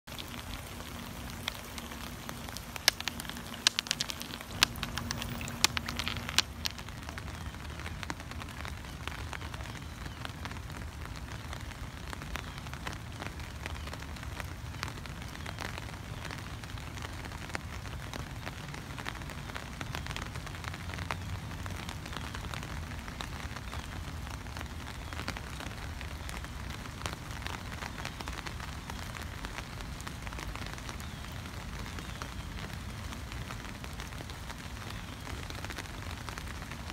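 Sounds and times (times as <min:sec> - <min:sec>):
close raindrop hits: 0:00.0 - 0:36.9
rain falling on concrete: 0:00.0 - 0:36.9.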